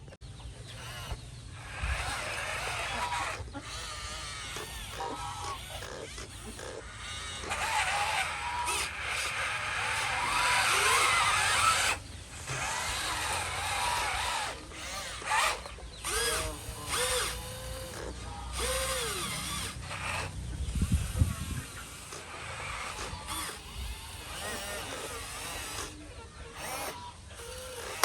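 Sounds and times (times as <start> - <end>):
small electric motors whining: 0.0 - 28.0.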